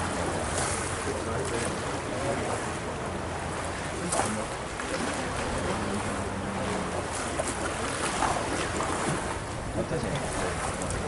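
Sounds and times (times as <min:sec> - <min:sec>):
boat motor humming: 0:00.0 - 0:11.0
rushing water: 0:00.0 - 0:11.0.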